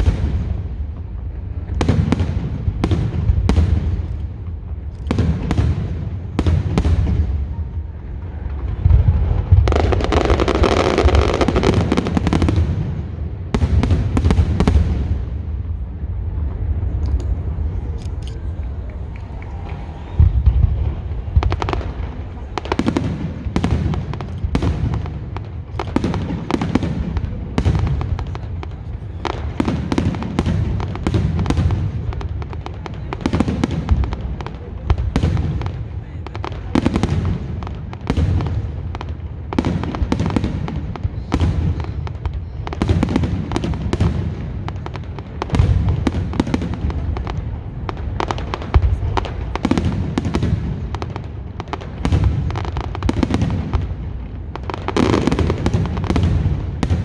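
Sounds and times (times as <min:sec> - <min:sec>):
fireworks bursts and bangs: 0:00.0 - 0:57.0
low rumble of explosions: 0:00.0 - 0:57.0.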